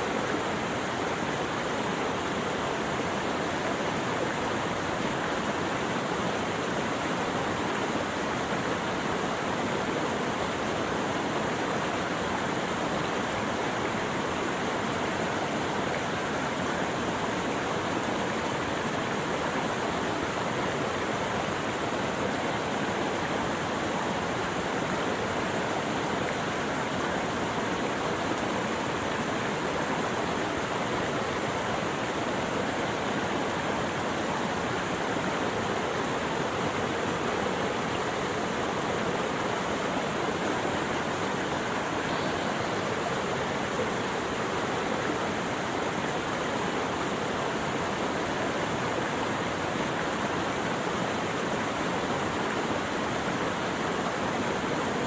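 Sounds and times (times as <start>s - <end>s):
rushing flowing water: 0.0s - 55.0s.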